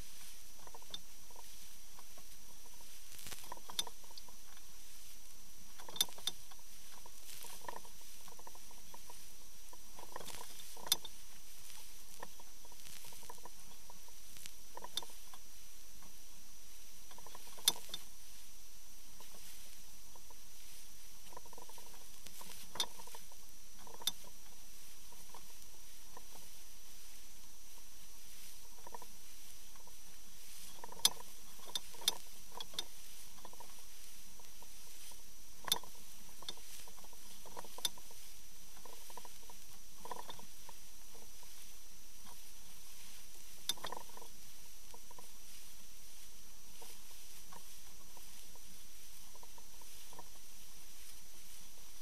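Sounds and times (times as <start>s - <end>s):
faint high whine: 0.0s - 52.0s.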